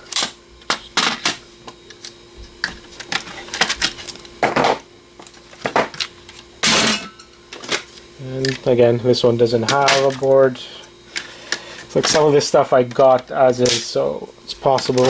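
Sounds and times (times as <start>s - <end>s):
disc drives clattering when handled: 0.0s - 15.0s.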